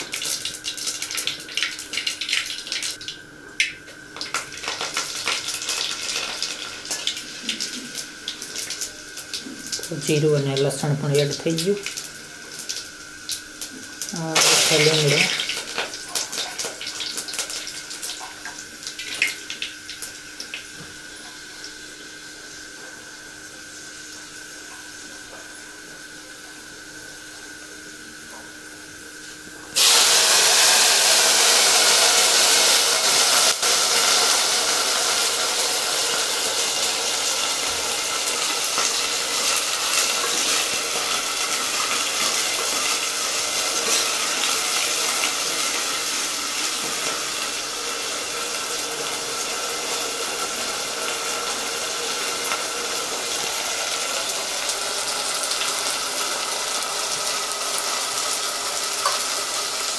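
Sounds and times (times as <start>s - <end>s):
vegetables sizzling in hot oil: 0.0s - 28.3s, 28.9s - 59.9s.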